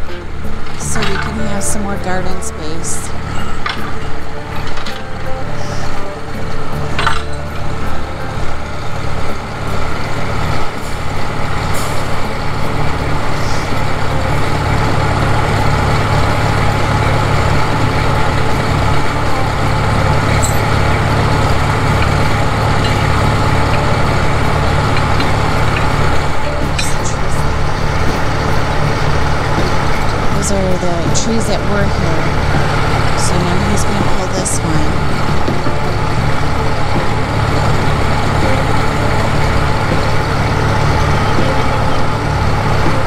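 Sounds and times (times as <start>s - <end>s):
tractor engine idling: 0.0s - 43.0s.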